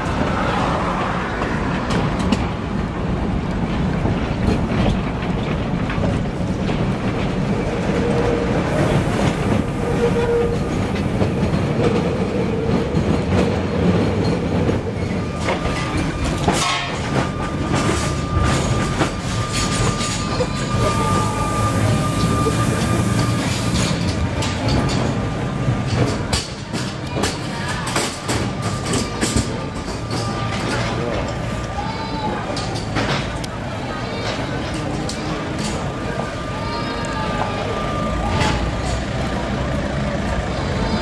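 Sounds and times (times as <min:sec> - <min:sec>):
tram rumbling on rails: 0:00.0 - 0:41.0.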